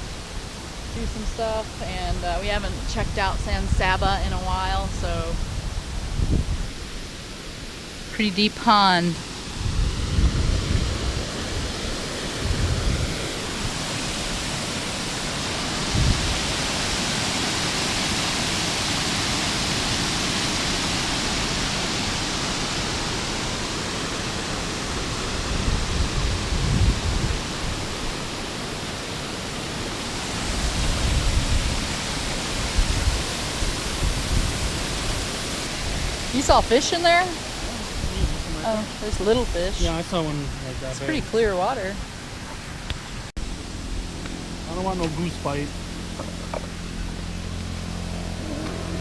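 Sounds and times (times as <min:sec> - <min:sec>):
running water rushing: 0:00.0 - 0:49.0
wind rumbling on microphone: 0:00.0 - 0:49.0.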